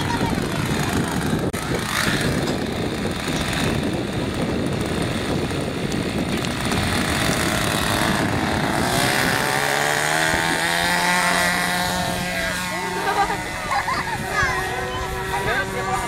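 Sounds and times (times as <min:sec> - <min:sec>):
model airplane engine revving: 0:00.0 - 0:16.0
wind rumbling on microphone: 0:00.0 - 0:16.0.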